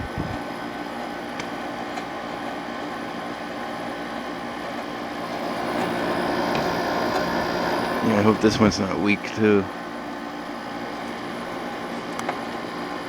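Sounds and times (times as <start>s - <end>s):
window air conditioner running: 0.0s - 13.0s.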